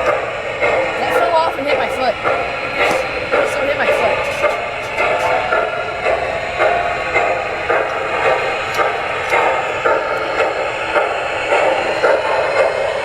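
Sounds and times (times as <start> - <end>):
model train running: 0.0 - 13.0.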